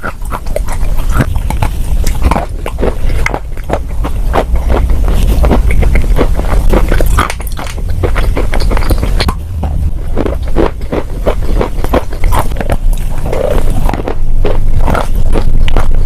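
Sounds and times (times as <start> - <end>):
chalk being bitten and chewed: 0.0 - 16.0.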